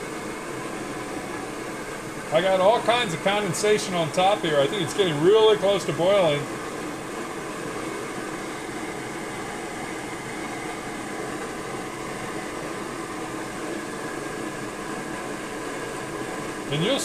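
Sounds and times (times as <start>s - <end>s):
stove burner rushing: 0.0s - 17.0s.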